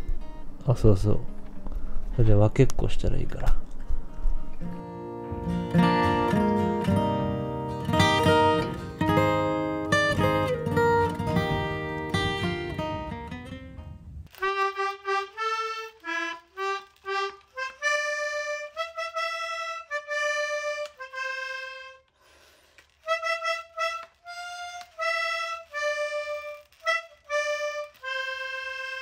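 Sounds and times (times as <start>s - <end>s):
reedy free-reed instrument melody: 3.7s - 29.0s.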